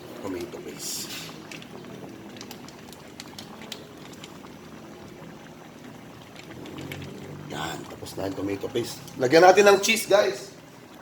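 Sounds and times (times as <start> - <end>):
sauce simmering and bubbling: 0.0 - 11.0.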